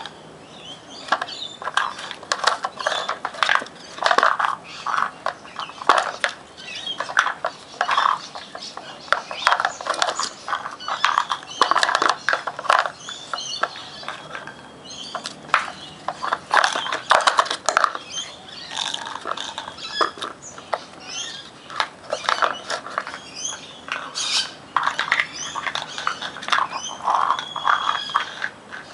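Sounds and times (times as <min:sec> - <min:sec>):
plastic clattering on brick: 0:01.0 - 0:28.9.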